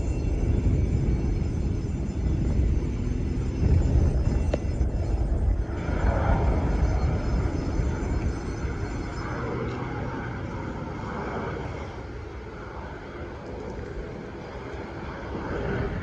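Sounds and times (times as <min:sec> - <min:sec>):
airplane engines rumbling: 0:00.0 - 0:16.0.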